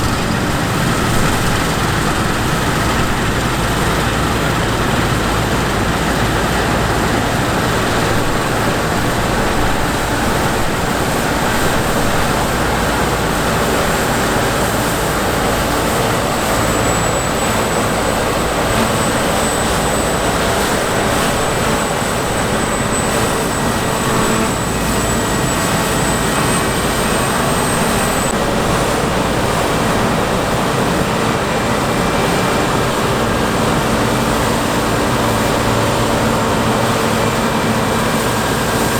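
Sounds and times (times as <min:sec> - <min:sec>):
harvest machinery engine running: 0:00.0 - 0:38.9.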